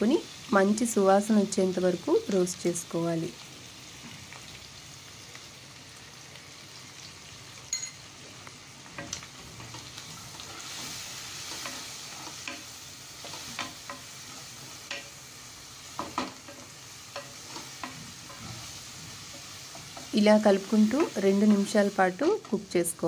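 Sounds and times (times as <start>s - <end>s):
oil sizzling in a pan: 0.0s - 23.0s.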